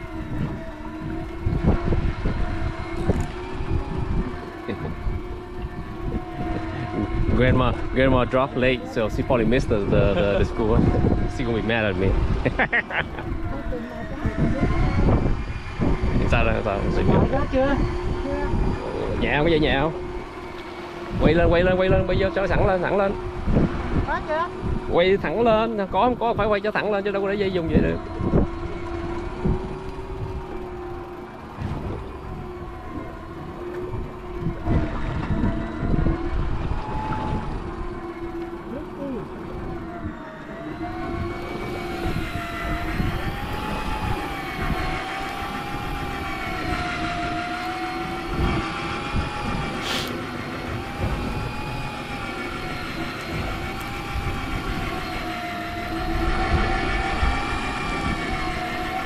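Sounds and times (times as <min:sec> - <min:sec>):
boat and wind rumble: 0:00.0 - 0:59.0
electric fishing reel whining: 0:00.0 - 0:59.0.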